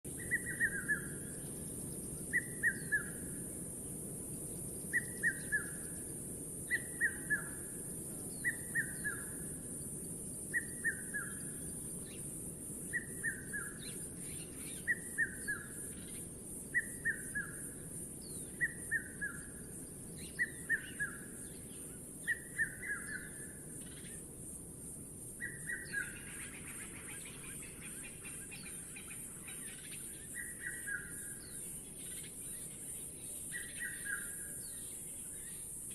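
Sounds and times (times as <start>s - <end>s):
high background hiss: 0.1s - 35.9s.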